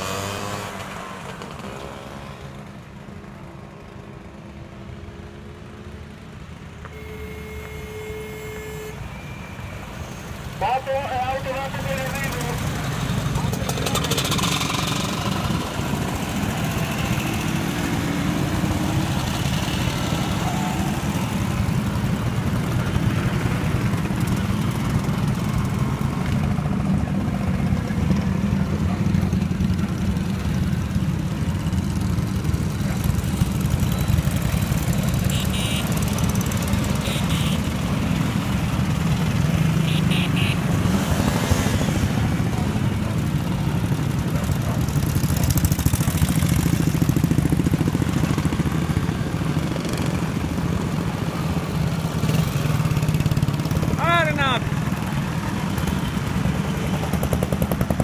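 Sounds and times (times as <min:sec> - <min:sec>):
motorcycles and scooters passing: 0:00.0 - 0:58.0.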